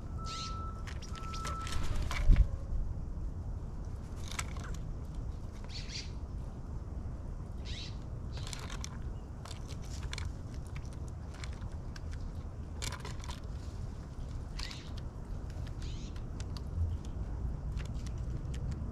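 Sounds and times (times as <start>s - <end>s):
steady low rumble: 0.0s - 18.9s
birds pecking at seed: 0.2s - 2.5s, 3.9s - 6.0s, 7.6s - 18.9s.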